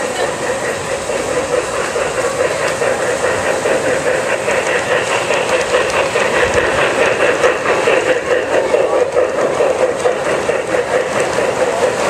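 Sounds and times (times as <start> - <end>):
model train running on track: 0.0 - 12.0
rail clicks: 0.0 - 12.0.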